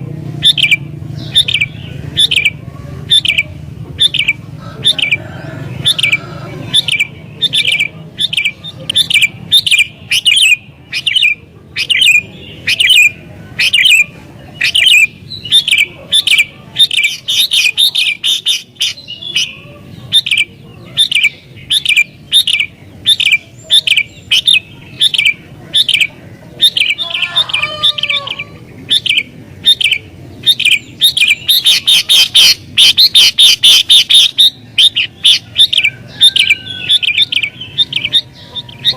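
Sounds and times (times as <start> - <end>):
bulbul chirping rapidly: 0.4 - 5.2, 5.8 - 38.9.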